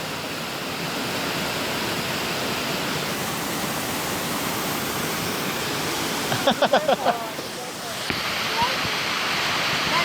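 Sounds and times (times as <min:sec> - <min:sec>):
waterfall rushing into pool: 0:00.0 - 0:10.0.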